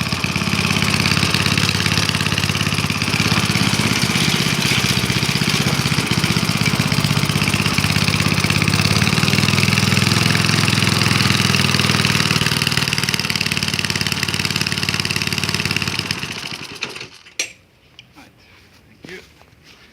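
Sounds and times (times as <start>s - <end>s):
lawnmower engine running: 0.0s - 17.5s.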